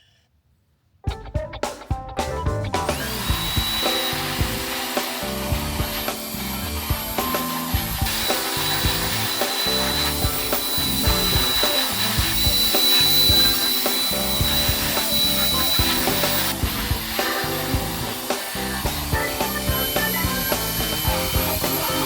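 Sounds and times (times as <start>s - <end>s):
background music: 1.1s - 22.0s
electric blower whining: 2.7s - 22.0s.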